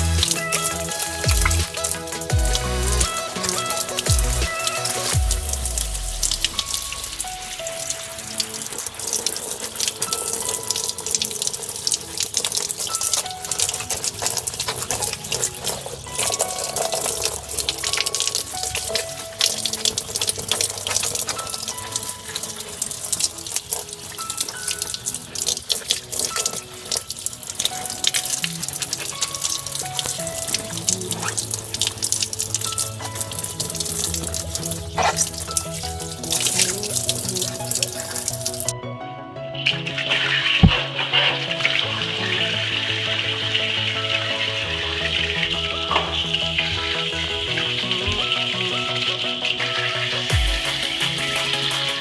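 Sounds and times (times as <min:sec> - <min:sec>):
running water splashing: 0:00.0 - 0:38.7, 0:39.9 - 0:52.0
background music: 0:00.0 - 0:52.0.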